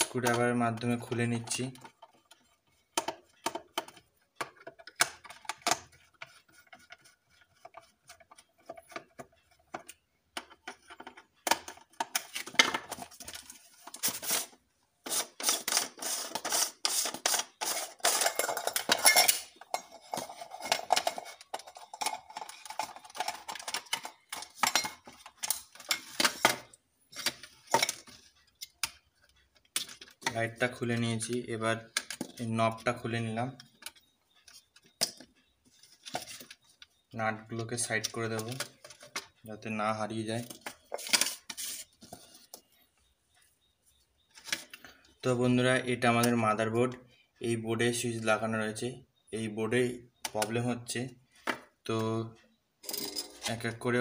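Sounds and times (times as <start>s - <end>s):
plastic clicks rattles and scrapes: 0.0s - 43.5s, 44.2s - 45.2s, 52.4s - 53.8s.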